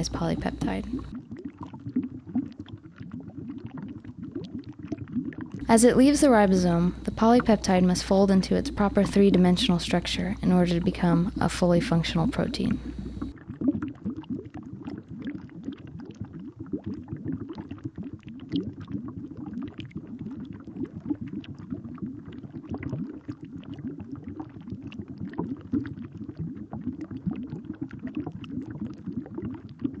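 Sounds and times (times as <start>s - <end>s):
bubbling and gurgling: 0.0s - 30.0s.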